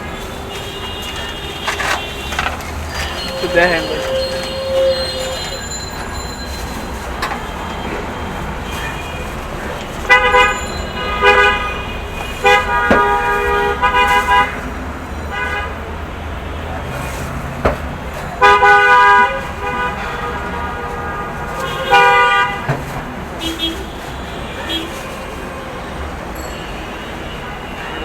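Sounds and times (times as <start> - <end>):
street traffic hum: 0.0 - 28.0
vehicle horns honking: 0.0 - 28.0.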